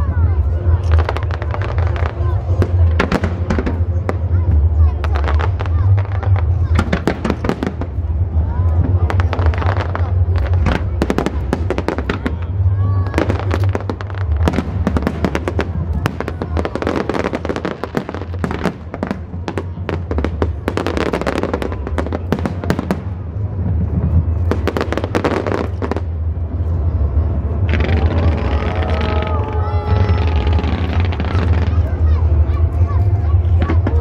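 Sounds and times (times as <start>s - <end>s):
fireworks bangs and crackles: 0.0s - 34.0s
low rumble: 0.0s - 34.0s.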